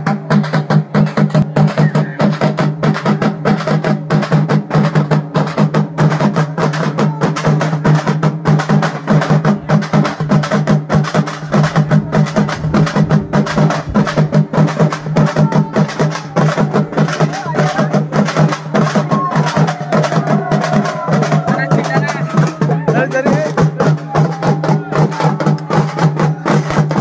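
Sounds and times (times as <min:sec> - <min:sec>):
frame drums beaten fast: 0:00.0 - 0:27.0.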